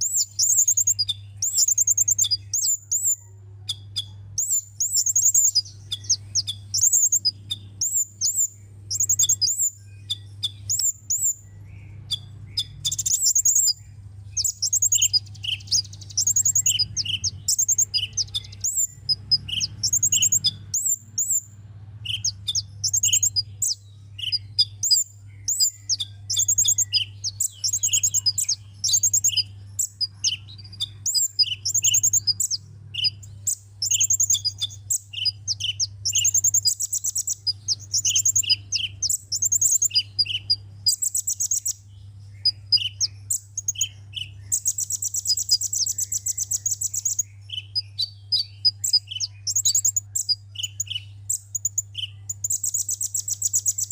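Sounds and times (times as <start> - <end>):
bird chirping and trilling: 0.0 - 53.9
buzzy bird trill: 0.0 - 53.9
steady low hum: 0.0 - 53.9.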